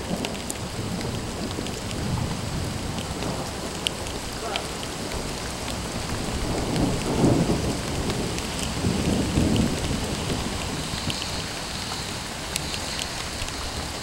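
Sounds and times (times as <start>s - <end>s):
steady rain: 0.0s - 14.0s
thunder rumbling: 0.0s - 14.0s.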